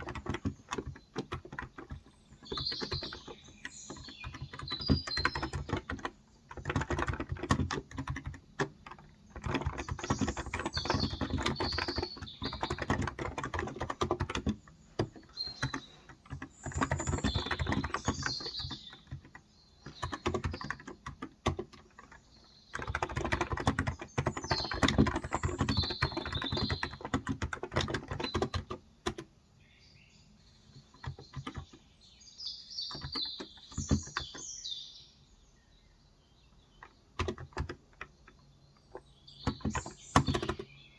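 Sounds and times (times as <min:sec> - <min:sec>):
soft keyboard keystrokes: 0:00.0 - 0:29.3, 0:30.7 - 0:31.8, 0:32.9 - 0:34.4, 0:36.6 - 0:40.8
small birds chirping: 0:00.0 - 0:40.9.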